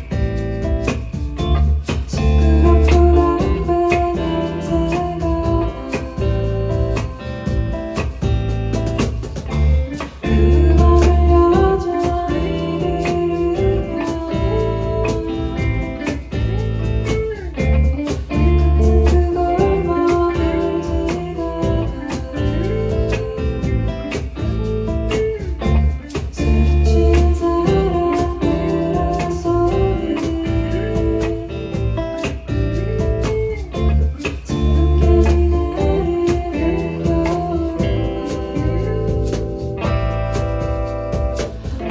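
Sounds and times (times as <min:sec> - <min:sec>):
bass line: 0:00.0 - 0:41.9
live acoustic pop-rock band: 0:00.0 - 0:41.9
strummed guitar: 0:00.0 - 0:41.9
person singing: 0:01.8 - 0:08.3, 0:09.9 - 0:41.9.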